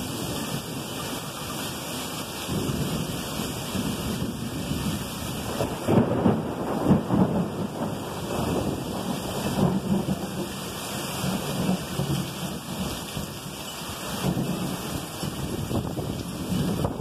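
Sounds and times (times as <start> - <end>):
heavy rain pouring: 0.0 - 17.0
thunder rumbling: 0.0 - 17.0.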